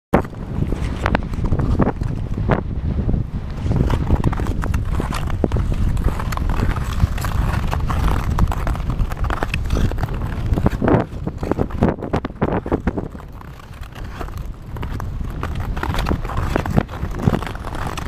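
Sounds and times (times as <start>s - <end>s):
wind rumbling on microphone: 0.1s - 18.0s
ice skates clacking and scraping: 0.2s - 2.5s, 3.5s - 18.0s.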